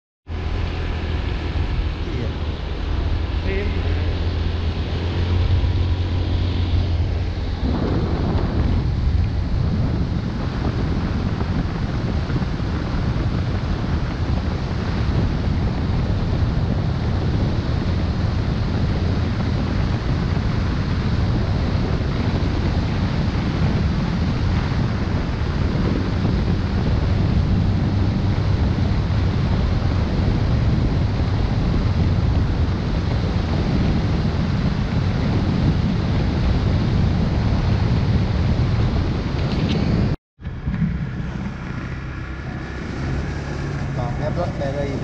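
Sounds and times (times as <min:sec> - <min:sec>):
road noise: 0:00.2 - 0:45.0
wind buffeting microphone: 0:00.3 - 0:45.0.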